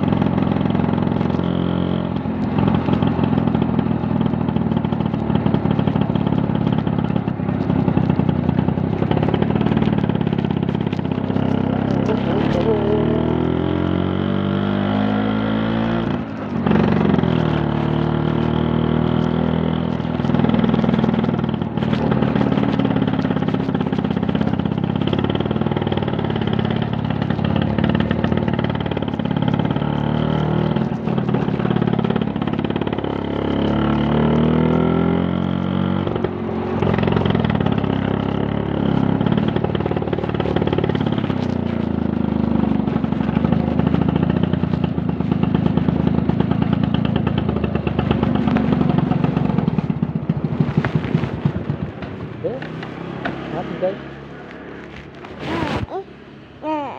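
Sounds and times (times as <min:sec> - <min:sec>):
scooter engine revving: 0:00.0 - 0:56.9.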